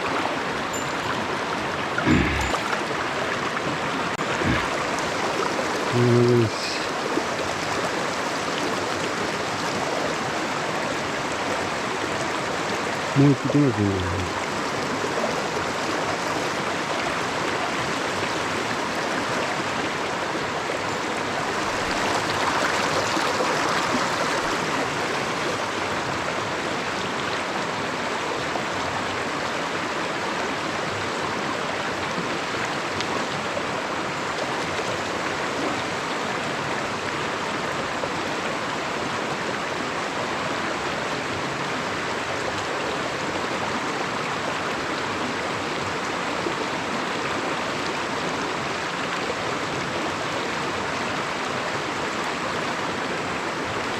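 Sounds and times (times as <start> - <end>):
mountain stream running: 0.0 - 53.9.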